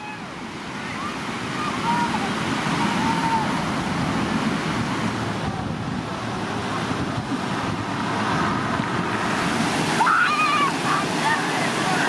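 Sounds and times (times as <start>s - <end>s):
river whitewater rushing: 0.0s - 12.0s
wind buffeting microphone: 0.0s - 12.0s.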